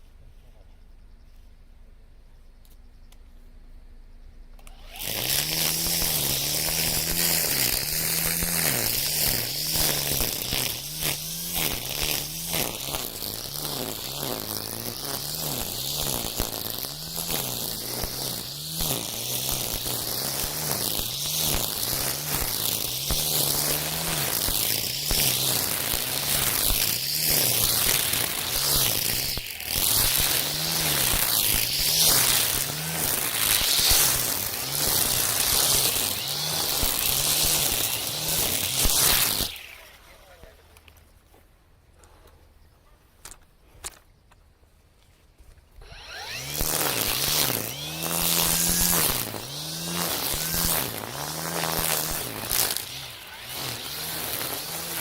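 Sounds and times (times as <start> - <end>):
brush cutter motor whine: 4.5 - 41.0, 45.8 - 55.0.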